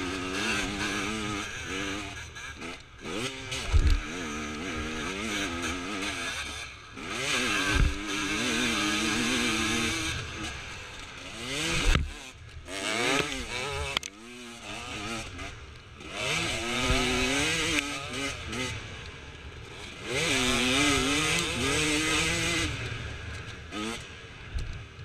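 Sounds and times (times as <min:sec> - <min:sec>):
dirt bike engine revving: 0:00.0 - 0:24.4.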